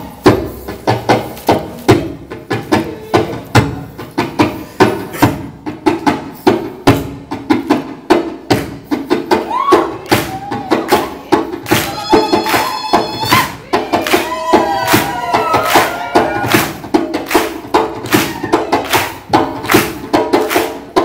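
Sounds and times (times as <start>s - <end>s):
hand drum rhythm: 0.0s - 21.0s.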